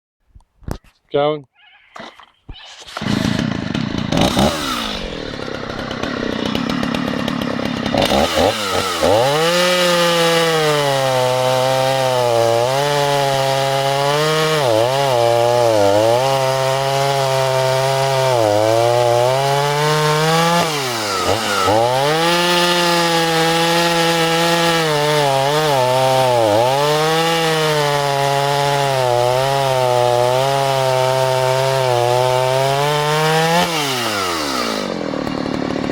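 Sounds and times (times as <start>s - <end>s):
chainsaw cutting wood: 2.0s - 35.9s.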